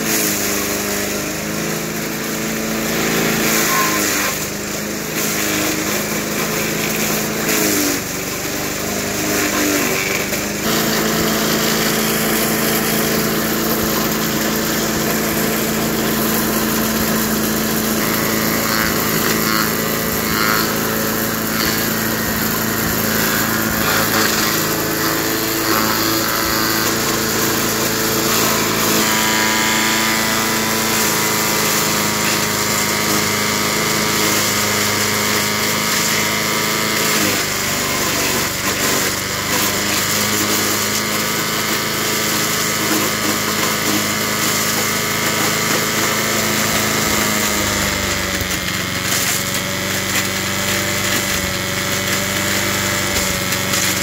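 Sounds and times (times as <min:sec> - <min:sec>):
branches fed through shredder: 0:00.0 - 0:54.0
chipper shredder engine running: 0:00.0 - 0:54.0.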